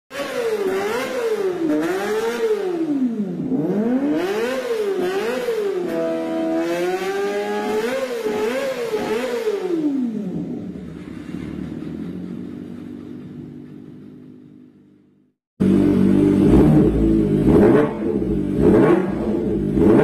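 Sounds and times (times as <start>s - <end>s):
motorcycle engine revving: 0.1s - 20.0s.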